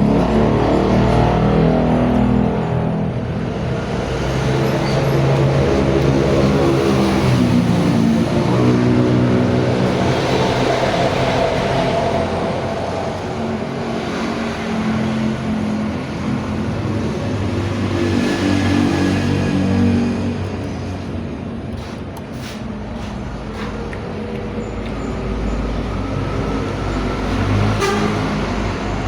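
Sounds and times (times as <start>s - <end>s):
steady vehicle noise: 0.0s - 29.0s.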